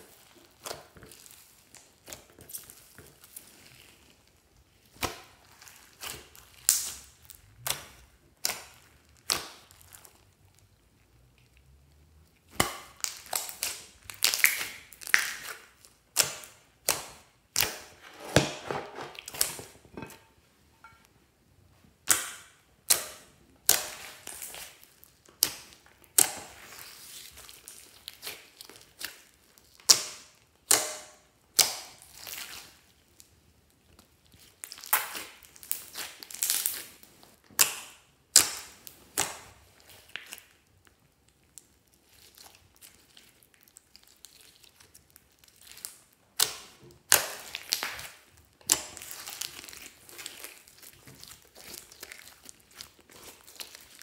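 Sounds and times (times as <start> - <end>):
slime crackling and squishing: 0.0 - 18.1, 22.0 - 54.0.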